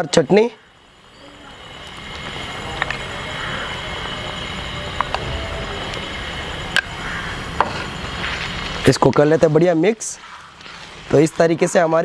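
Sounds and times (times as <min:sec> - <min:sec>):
rumbling background noise: 0:00.0 - 0:12.0.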